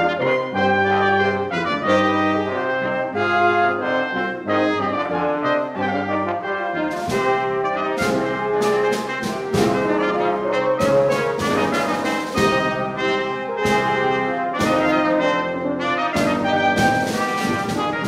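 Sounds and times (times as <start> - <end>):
brass and wind ensemble chords: 0.0 - 18.0
low tuba bass: 0.0 - 18.0.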